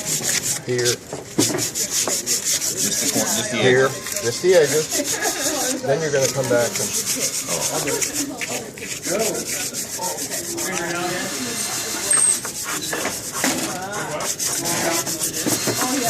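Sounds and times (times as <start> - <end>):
sandpaper rubbing wood: 0.0 - 16.0.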